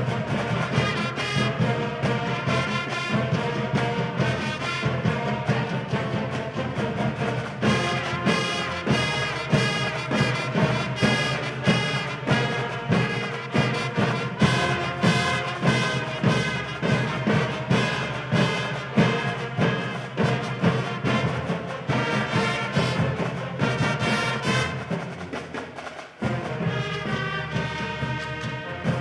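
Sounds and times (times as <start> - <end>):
brass band playing: 0.0 - 29.0
drums beating: 0.0 - 29.0.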